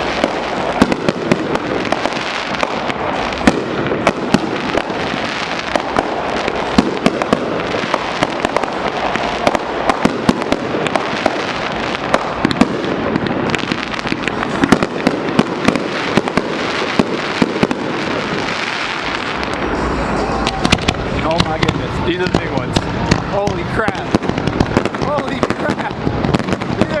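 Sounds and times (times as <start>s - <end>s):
fireworks crackling hiss: 0.0s - 27.0s
sharp firework bangs: 0.0s - 27.0s.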